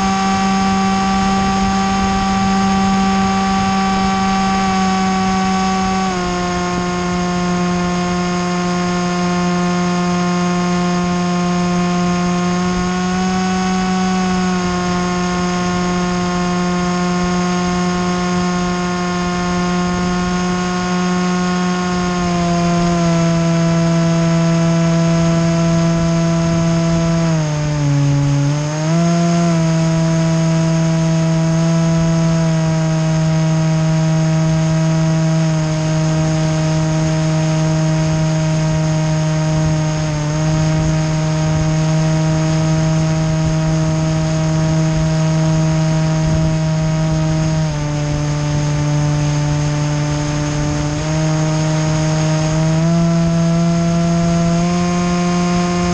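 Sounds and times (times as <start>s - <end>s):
model aircraft motor buzzing: 0.0s - 55.9s.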